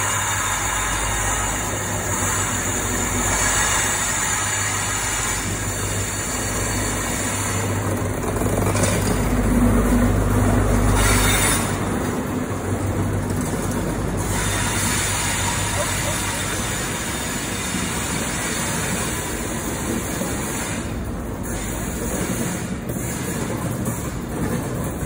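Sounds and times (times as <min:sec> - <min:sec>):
train coaches rolling by: 0:00.0 - 0:25.0
train diesel engine rumble: 0:00.0 - 0:25.0.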